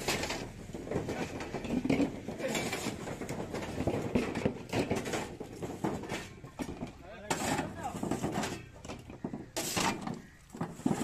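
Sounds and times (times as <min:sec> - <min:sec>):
coconuts thudding into plastic basins: 0:00.0 - 0:11.0.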